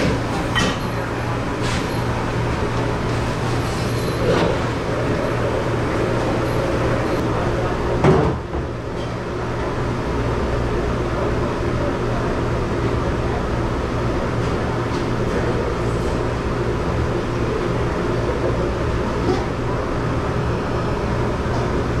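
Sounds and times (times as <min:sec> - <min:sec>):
dish-room machinery drone: 0:00.0 - 0:22.0.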